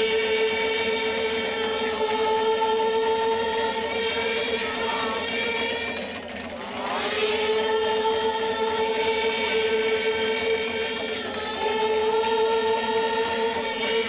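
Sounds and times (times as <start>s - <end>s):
group chanting on a drone note: 0.0s - 14.0s.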